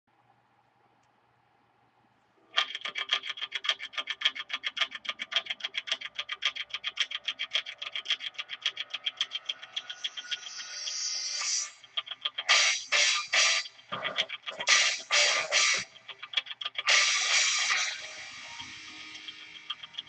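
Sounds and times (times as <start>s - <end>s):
rapid sharp clicking: 2.5s - 20.0s.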